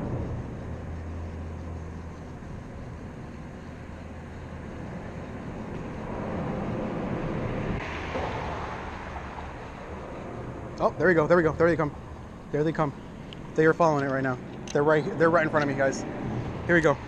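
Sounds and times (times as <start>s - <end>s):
traffic hum and tyre rush: 0.0s - 17.0s.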